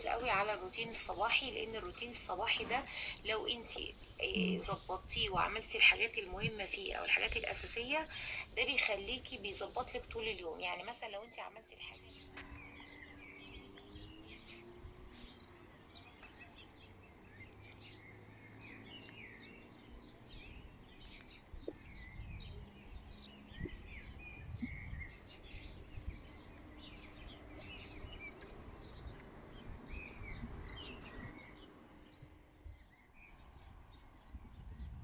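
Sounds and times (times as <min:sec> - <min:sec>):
low outdoor rumble: 0:00.0 - 0:35.0
small birds chirping: 0:00.0 - 0:35.0.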